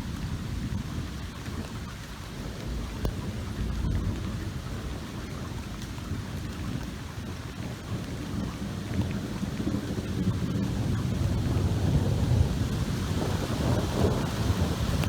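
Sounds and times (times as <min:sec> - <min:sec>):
steady rain falling: 0:00.0 - 0:15.0
thunder rumbling: 0:00.0 - 0:15.0.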